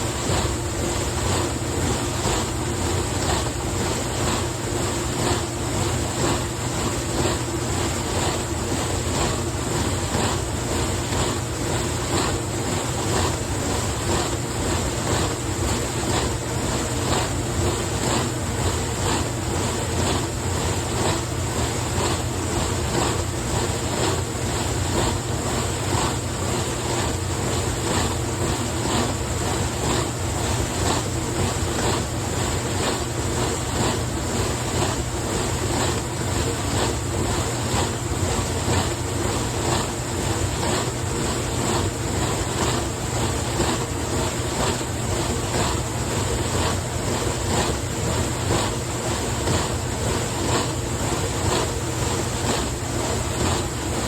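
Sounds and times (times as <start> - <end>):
dishwasher running: 0.0 - 54.0.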